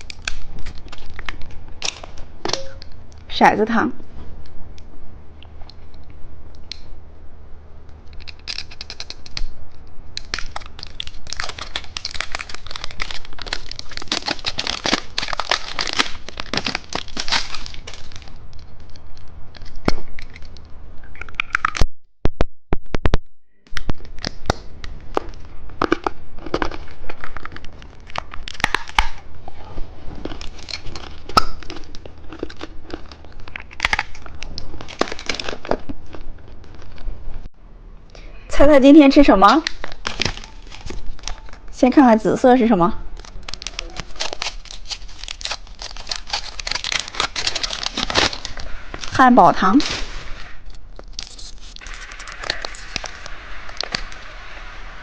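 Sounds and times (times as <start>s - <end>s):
plastic wrappers crinkling and tearing: 0.0s - 3.0s, 8.1s - 21.8s, 23.7s - 29.3s, 30.0s - 37.1s, 39.1s - 54.3s.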